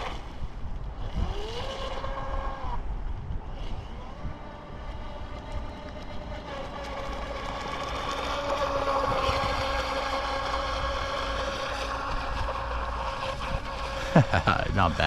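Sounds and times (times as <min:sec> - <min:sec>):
boat motor whine: 0:00.0 - 0:15.0.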